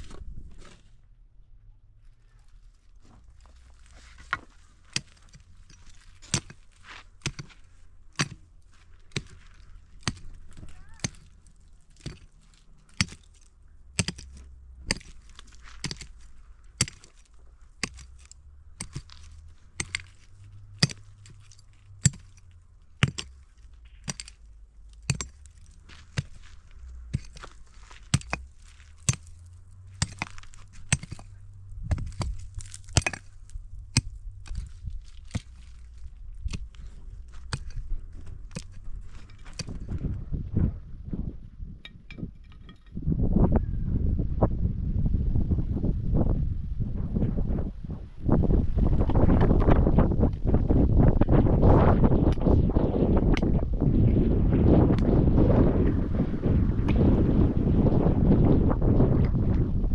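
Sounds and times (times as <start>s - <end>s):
faint low rumble: 0.0s - 59.9s.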